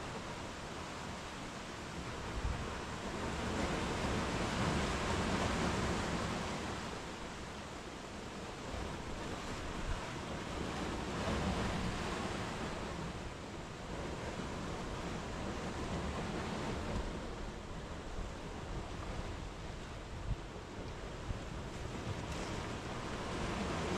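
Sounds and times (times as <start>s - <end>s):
sea waves breaking on beach: 0.0s - 23.9s.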